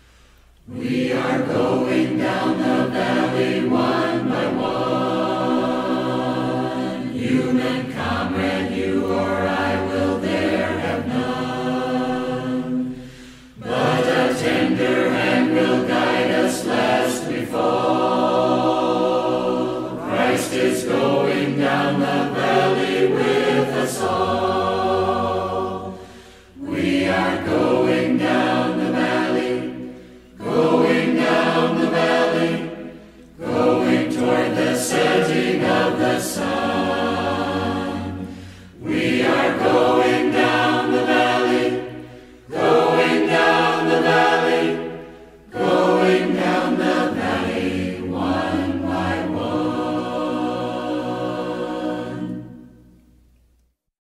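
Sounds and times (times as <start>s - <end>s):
choir singing: 0.6s - 53.3s.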